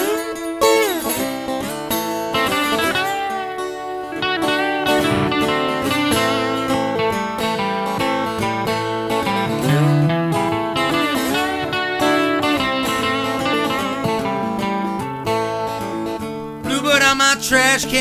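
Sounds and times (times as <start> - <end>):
blues guitar plucked and strummed: 0.0 - 18.0.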